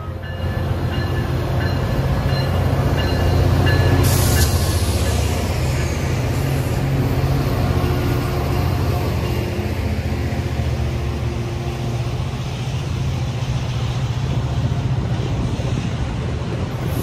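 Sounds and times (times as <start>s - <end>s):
diesel locomotive engine rumble: 0.0s - 17.0s
train noise: 0.0s - 17.0s.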